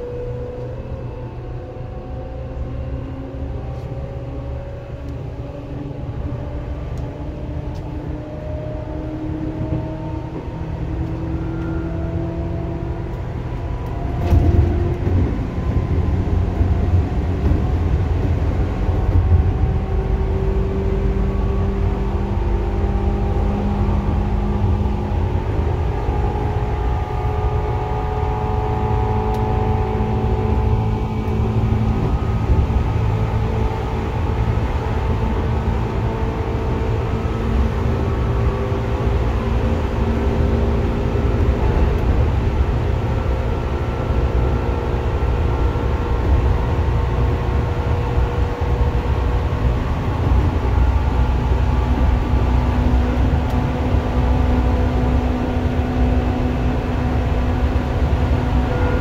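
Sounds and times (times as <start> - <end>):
wheels rumbling on rails: 0.0 - 59.0.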